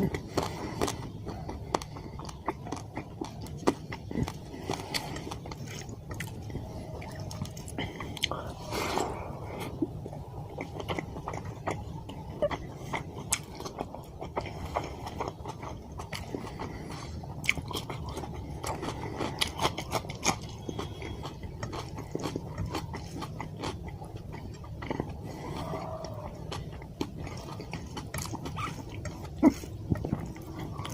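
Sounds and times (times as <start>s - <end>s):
person chewing food: 0.0s - 30.9s.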